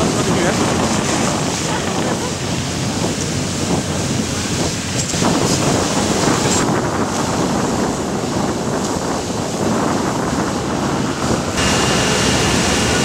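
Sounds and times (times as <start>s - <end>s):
fire hoses spraying water: 0.0s - 13.0s
wind buffeting microphone: 0.0s - 13.0s.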